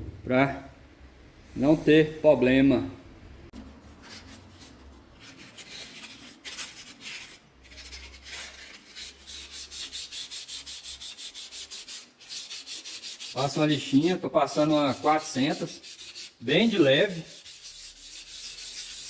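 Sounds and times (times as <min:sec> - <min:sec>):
sandpaper rubbing on metal: 0:03.7 - 0:19.0.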